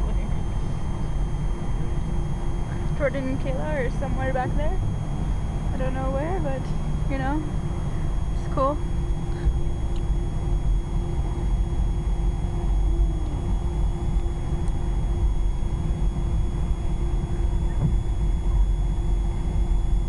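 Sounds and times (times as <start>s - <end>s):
airliner cabin rumble: 0.0s - 20.0s
faint high engine whine: 0.0s - 20.0s.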